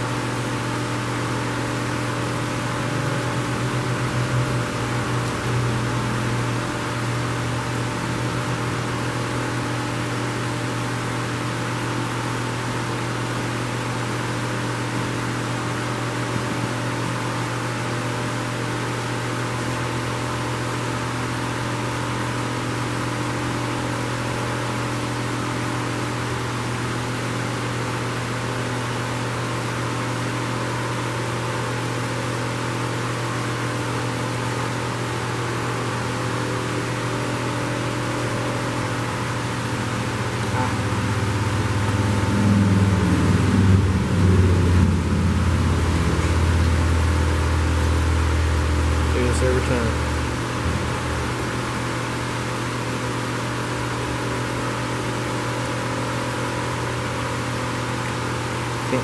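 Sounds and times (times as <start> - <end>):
electric fan whirring: 0.0 - 59.0.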